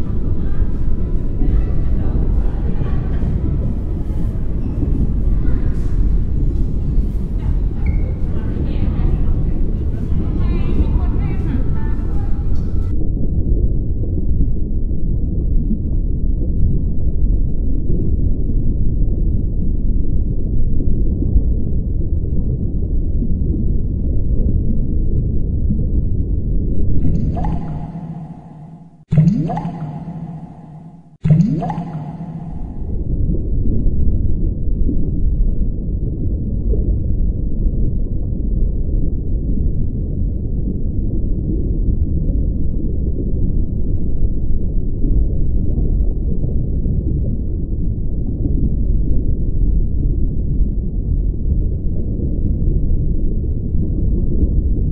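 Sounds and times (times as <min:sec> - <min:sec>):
deep muffled underwater rumble: 0:00.0 - 0:54.9.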